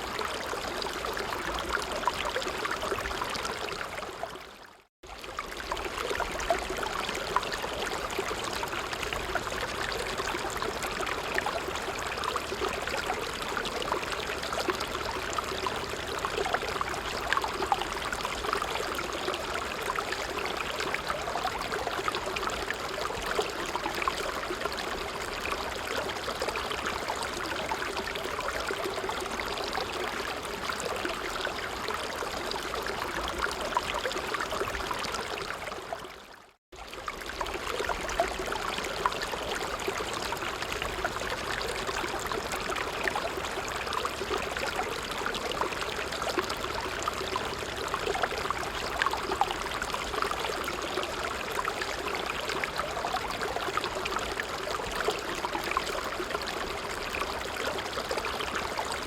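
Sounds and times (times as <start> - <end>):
creek flowing: 0.0 - 59.0.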